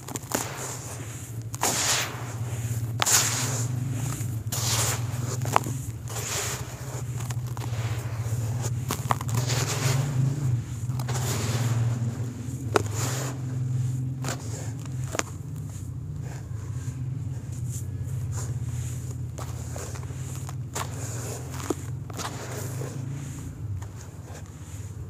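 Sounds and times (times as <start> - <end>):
hands crumbling dry soil: 0.0 - 25.0
steady low hum: 0.0 - 25.0.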